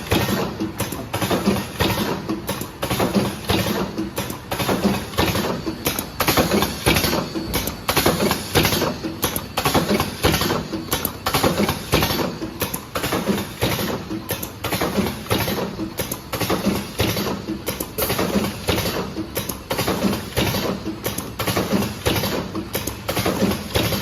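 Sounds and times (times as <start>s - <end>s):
cartoning machine clattering: 0.0s - 24.0s.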